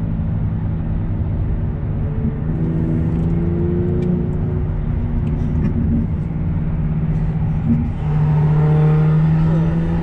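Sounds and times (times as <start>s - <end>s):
car engine drone: 0.0s - 10.0s
passing sports car engine: 0.0s - 10.0s
road noise inside car: 0.0s - 10.0s.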